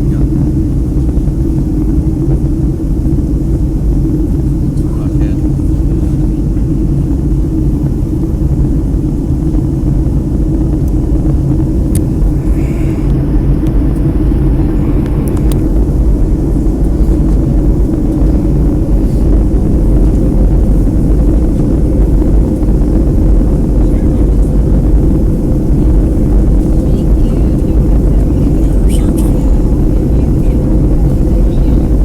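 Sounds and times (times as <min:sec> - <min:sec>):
aircraft cabin engine rumble: 0:00.0 - 0:32.0.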